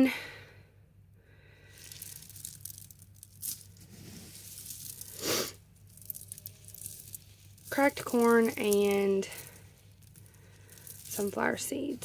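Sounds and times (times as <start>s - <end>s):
feed bag rustling: 1.8s - 12.0s.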